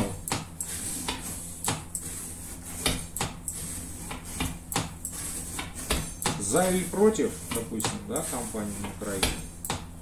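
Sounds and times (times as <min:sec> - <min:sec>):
knife cutting strokes: 0:00.5 - 0:09.6.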